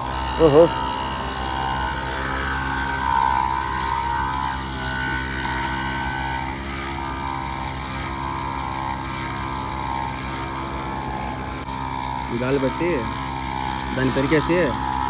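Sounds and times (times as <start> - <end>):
portable air compressor running: 0.0 - 15.0.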